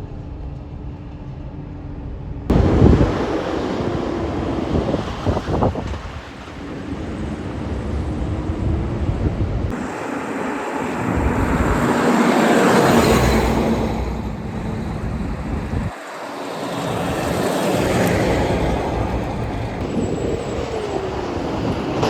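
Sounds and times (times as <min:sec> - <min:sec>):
vehicle driving past: 0:02.5 - 0:22.0
wind on microphone: 0:02.5 - 0:22.0.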